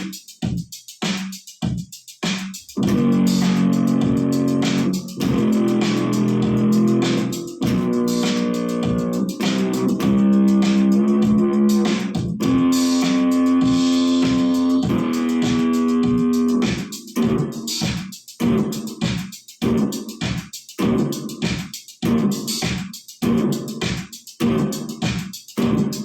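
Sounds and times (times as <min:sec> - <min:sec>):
percussive beat: 0:00.0 - 0:26.0.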